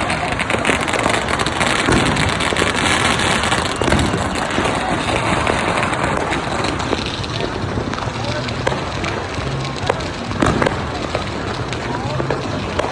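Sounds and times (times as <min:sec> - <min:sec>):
fireworks crackling: 0:00.0 - 0:12.9.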